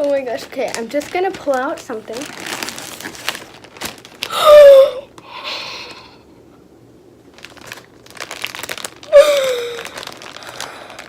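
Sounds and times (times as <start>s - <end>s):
plastic packaging crinkling: 0.0s - 5.3s, 7.2s - 11.0s.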